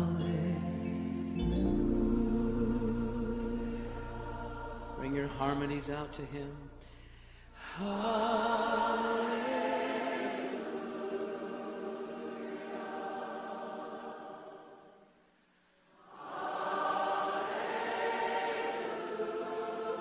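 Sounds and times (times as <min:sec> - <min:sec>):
choir singing worship music: 0:00.0 - 0:15.2, 0:15.9 - 0:20.0.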